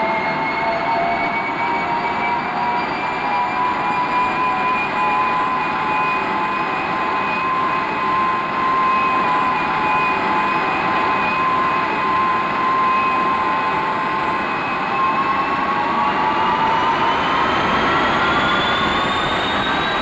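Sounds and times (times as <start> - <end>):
jet engine whine and roar: 0.0 - 20.0.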